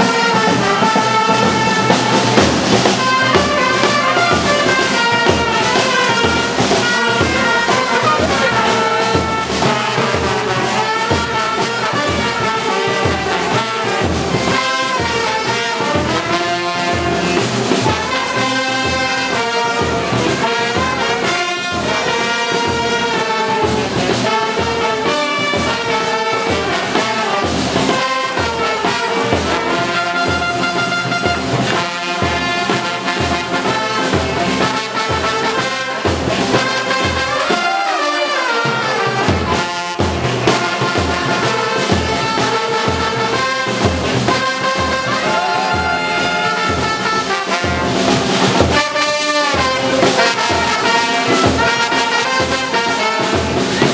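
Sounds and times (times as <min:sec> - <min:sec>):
brass horn music: 0:00.0 - 0:53.9.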